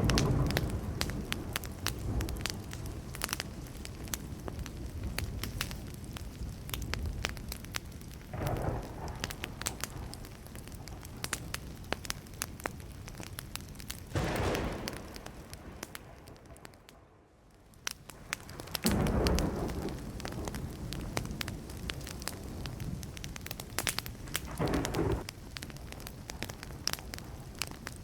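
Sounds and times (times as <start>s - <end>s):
fire popping: 0.0s - 28.0s
wood fire crackling: 0.0s - 28.0s.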